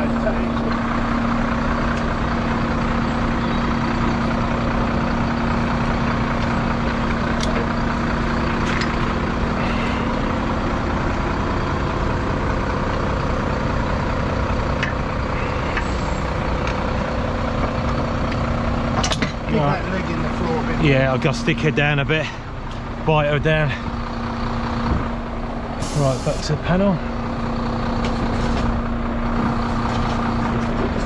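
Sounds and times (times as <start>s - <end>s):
truck engine driving winch: 0.0s - 31.0s.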